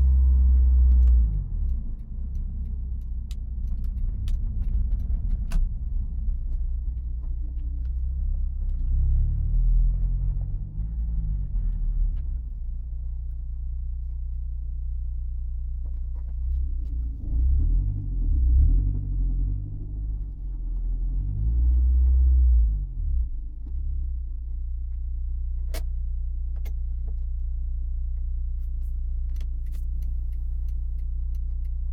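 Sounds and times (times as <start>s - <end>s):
car engine rumbling: 0.0s - 31.9s.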